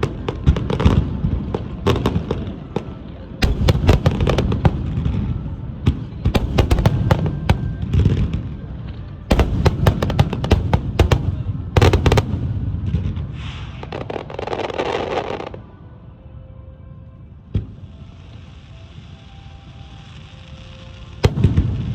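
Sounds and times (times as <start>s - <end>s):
fireworks booming and crackling: 0.0s - 15.7s, 17.5s - 21.9s.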